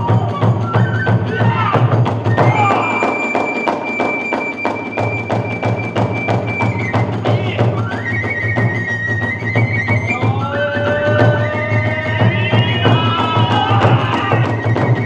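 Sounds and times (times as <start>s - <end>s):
bamboo flute high notes: 0.0s - 15.0s
quick drum beats: 0.0s - 15.0s.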